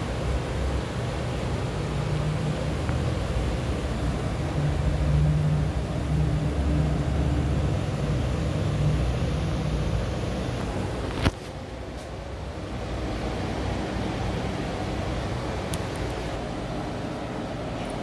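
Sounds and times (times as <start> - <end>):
background hum and hiss: 0.0 - 18.0.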